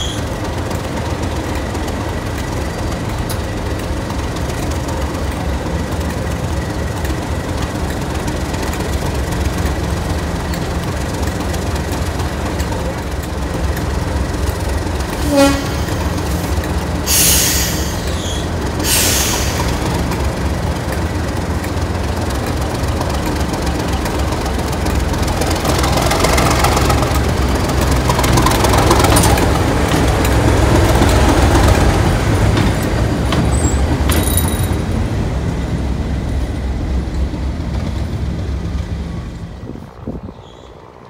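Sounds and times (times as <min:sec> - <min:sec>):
diesel locomotive engine drone: 0:00.0 - 0:41.0.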